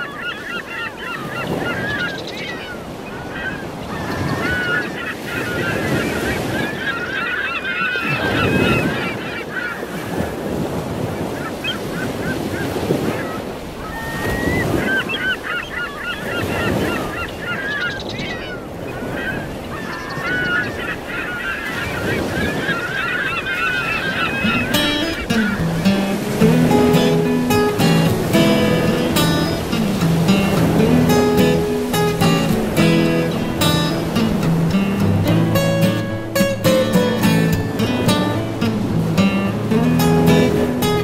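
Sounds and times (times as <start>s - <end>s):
birds calling and squawking: 0.0s - 41.0s
ocean waves washing in: 0.0s - 41.0s.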